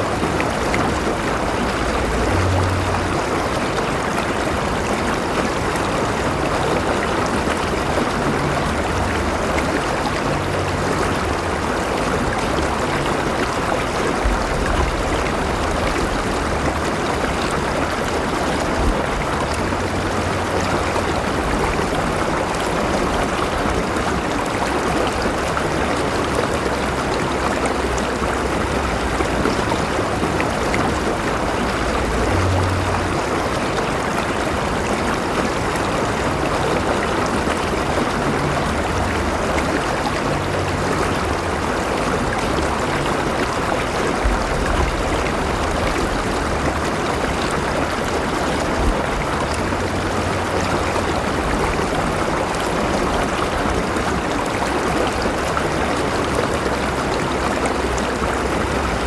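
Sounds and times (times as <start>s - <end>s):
river water rushing and burbling: 0.0s - 59.0s.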